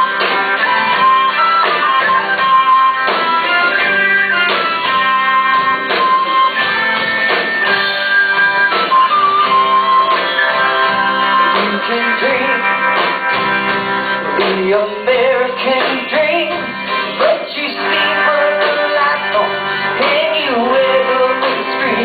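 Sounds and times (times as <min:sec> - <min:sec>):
electric guitar: 0:00.0 - 0:22.0
live rock band playing: 0:00.0 - 0:22.0.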